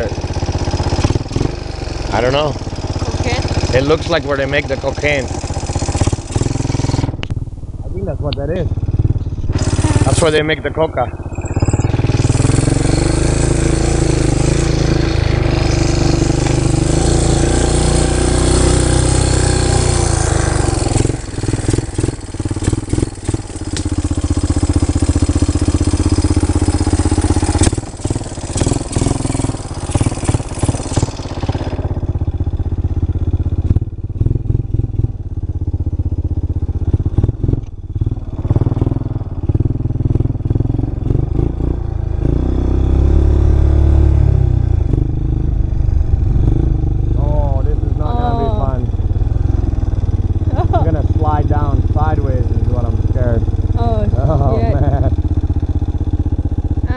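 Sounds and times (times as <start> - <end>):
off-road vehicle engine running: 0.0 - 56.9.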